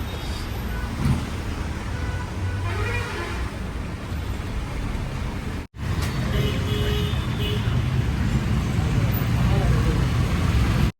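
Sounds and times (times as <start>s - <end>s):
motor vehicle engines and tyres: 0.0s - 10.9s.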